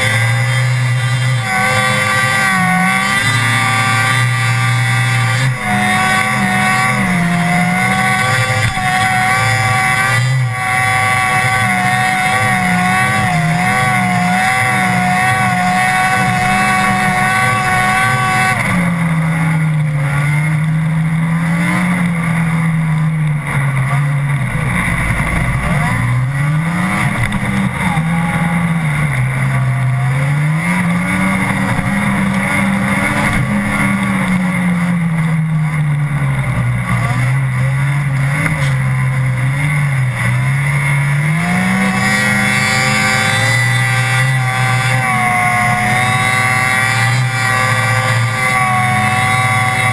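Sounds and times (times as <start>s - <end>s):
snowmobile engine revving: 0.0s - 49.9s.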